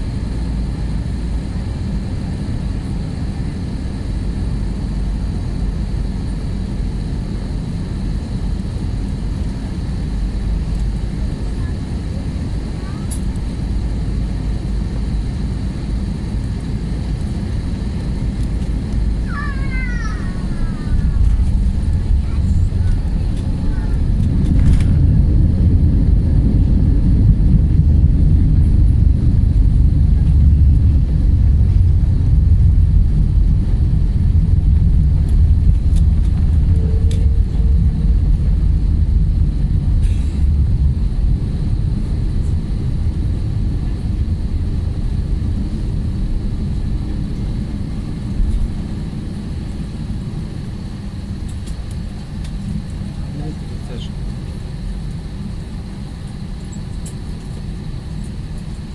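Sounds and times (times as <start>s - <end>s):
jet airliner rumble in cabin: 0.0s - 58.9s.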